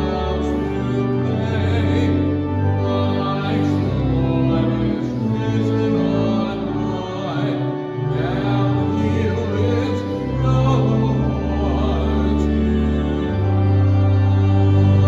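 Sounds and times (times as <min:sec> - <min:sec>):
church organ chords: 0:00.0 - 0:15.0
voices singing: 0:00.0 - 0:15.0.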